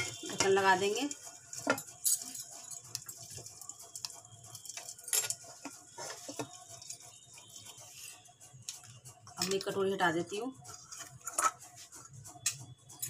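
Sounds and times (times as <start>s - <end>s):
ticking and crackling in pot: 0.0s - 13.0s.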